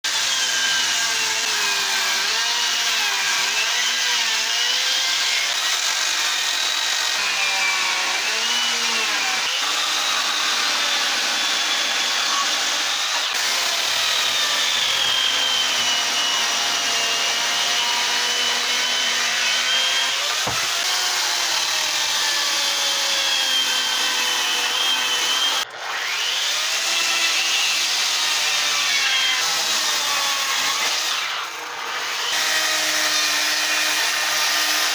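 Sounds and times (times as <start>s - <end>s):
die grinder cutting wood: 0.0s - 34.9s.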